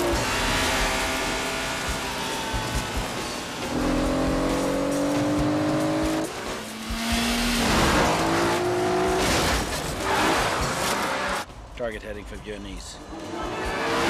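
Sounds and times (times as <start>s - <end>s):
car engines revving: 0.0s - 11.6s, 13.0s - 14.0s.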